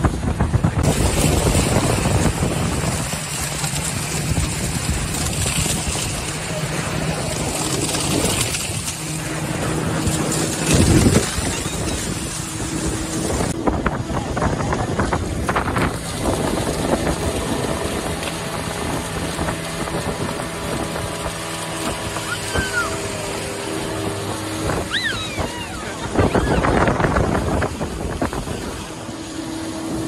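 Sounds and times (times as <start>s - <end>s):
speedboat engine running: 0.0s - 30.0s
water rushing and splashing: 0.0s - 30.0s.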